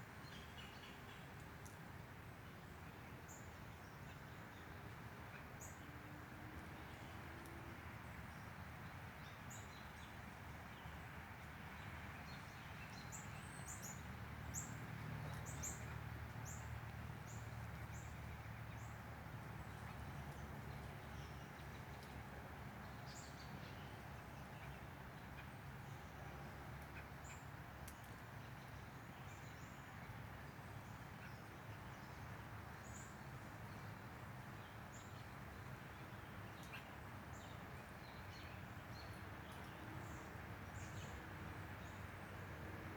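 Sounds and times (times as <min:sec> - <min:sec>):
faint outdoor background noise: 0:00.0 - 0:42.9.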